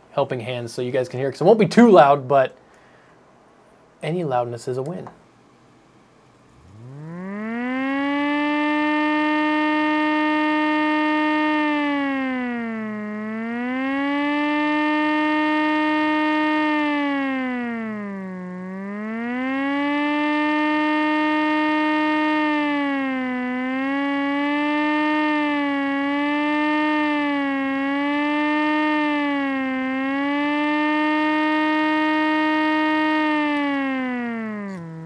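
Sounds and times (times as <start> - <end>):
tiny siren wailing: 6.6 - 35.0.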